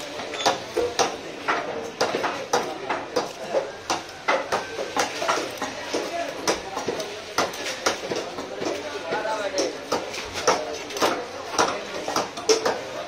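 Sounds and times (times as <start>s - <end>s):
knives chopping fish on wood: 0.0s - 13.0s.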